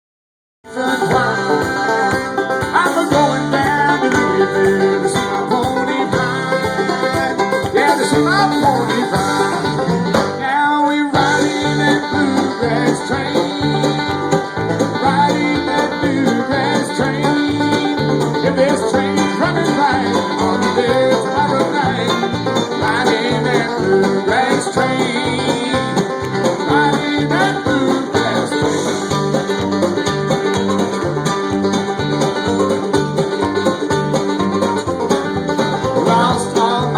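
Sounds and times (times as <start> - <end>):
banjo: 0.6 - 36.9
bluegrass band playing: 0.6 - 36.9.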